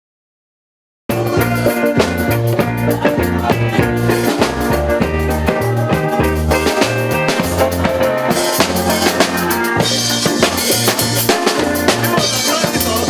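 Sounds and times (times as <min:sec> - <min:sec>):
band music with drums bass and guitar: 0:01.1 - 0:13.0.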